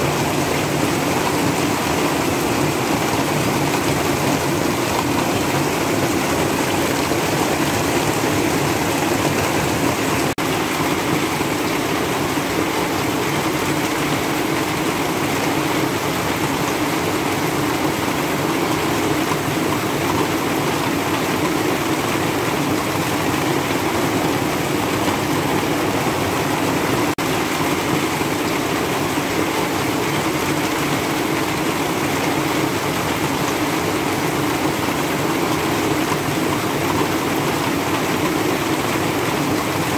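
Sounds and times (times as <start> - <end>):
heavy rain on roof: 0.0 - 39.9
water streaming off roof: 0.0 - 39.9.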